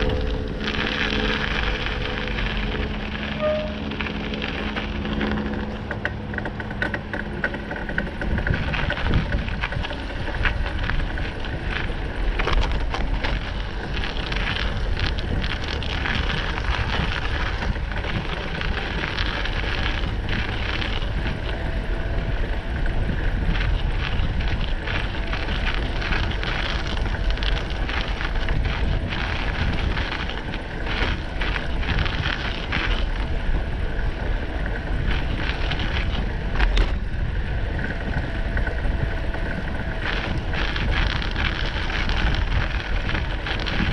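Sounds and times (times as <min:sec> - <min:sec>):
low hum: 0:00.0 - 0:43.9
tyres crunching over snow: 0:00.0 - 0:43.9
wind rumbling on microphone: 0:00.0 - 0:43.9.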